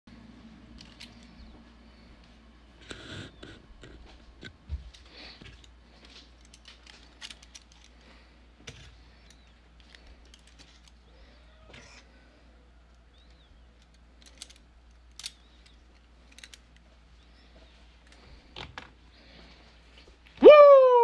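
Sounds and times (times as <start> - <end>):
low steady hum: 0.1 - 21.0.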